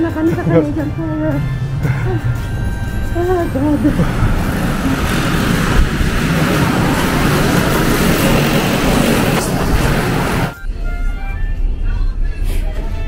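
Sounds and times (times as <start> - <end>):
strong wind buffeting microphone: 0.0 - 10.6.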